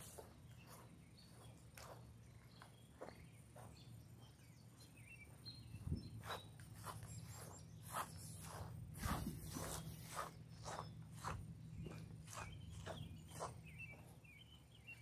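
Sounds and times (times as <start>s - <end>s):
footsteps on gravel and grass: 0.0s - 14.9s.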